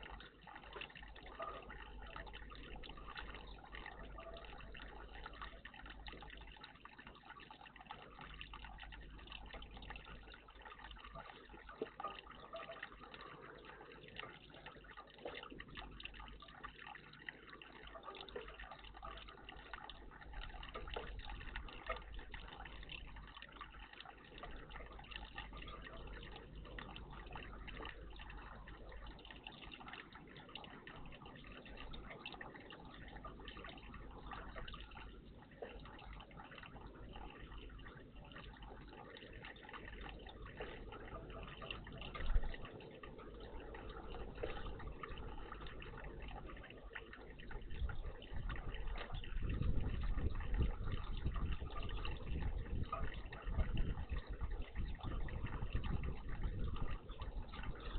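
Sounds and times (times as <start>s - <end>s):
water splashing: 0.0s - 57.9s
water trickling and dripping: 0.0s - 57.9s.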